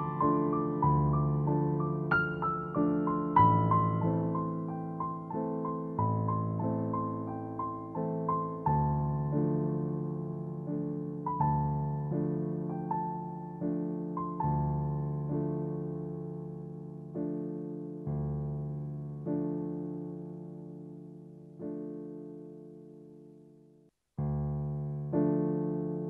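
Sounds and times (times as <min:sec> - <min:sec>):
slow gentle piano music: 0:00.0 - 0:26.0.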